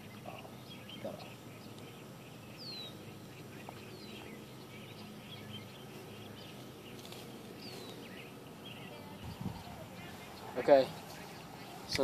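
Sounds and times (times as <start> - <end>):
bird chirps: 0.0 - 12.0
low outdoor background noise: 0.0 - 12.0.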